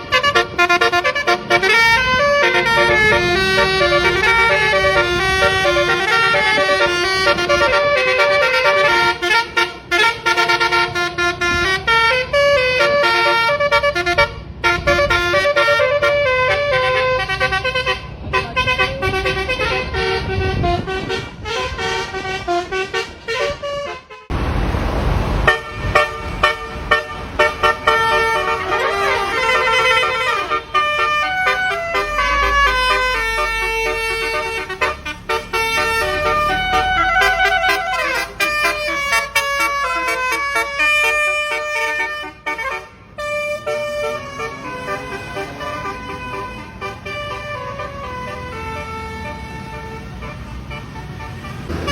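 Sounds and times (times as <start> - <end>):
multi-tone bus horn tunes: 0.0 - 24.5, 25.4 - 51.9.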